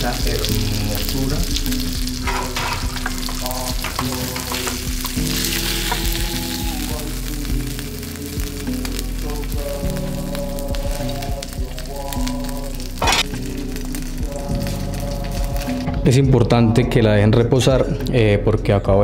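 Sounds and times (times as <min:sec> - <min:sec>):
burger sizzling in a frying pan: 0:00.0 - 0:15.9
background music: 0:00.0 - 0:19.0.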